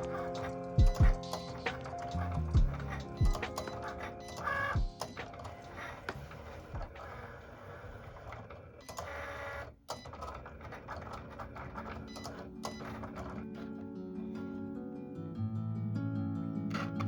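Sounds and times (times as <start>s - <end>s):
cutting machine whirring: 0.0s - 13.7s.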